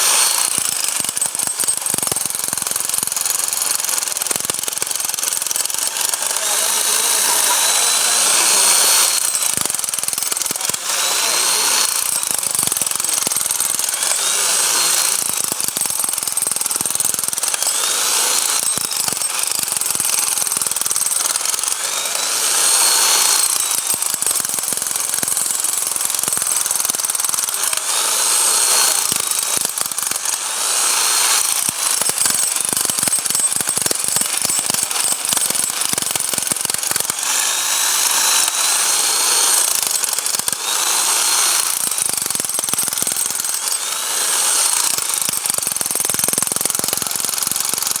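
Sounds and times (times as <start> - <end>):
hammer drill hammering: 0.0 - 48.0.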